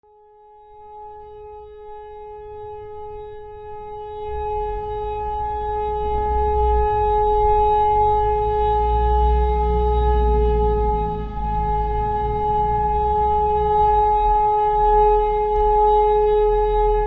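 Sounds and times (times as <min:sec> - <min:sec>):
siren steady tone: 0:00.1 - 0:17.0
low rumble: 0:03.0 - 0:17.0.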